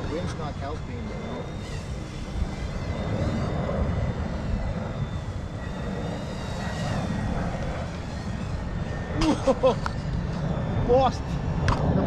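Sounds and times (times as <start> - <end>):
rc helicopter high whine: 0.0 - 12.0
wind buffeting microphone: 0.0 - 12.0.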